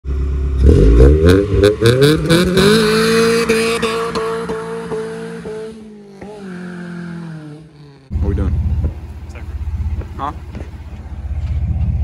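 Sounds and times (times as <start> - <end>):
car engine revving: 0.1 - 12.0
exhaust cracks: 2.2 - 12.0.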